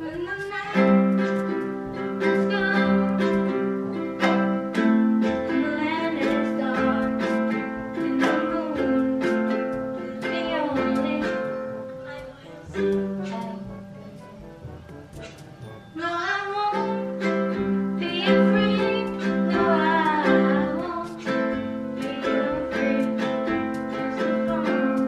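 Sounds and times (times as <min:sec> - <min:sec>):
ukulele strumming chords: 0:00.0 - 0:25.0.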